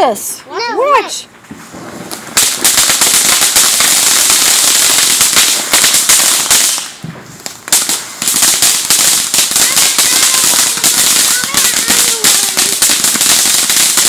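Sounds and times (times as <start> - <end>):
fireworks crackling pops: 0.3 - 14.0.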